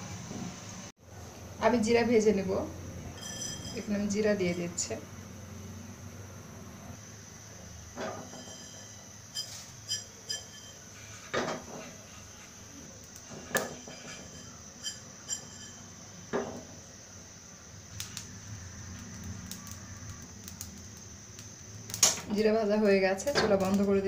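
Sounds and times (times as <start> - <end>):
steady low hiss: 0.0 - 24.0.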